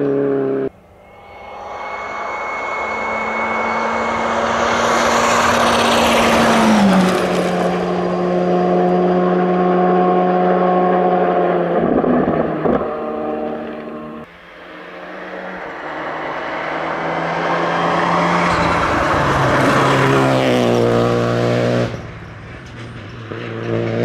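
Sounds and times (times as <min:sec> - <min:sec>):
rally car engine at full throttle: 0:02.0 - 0:24.0.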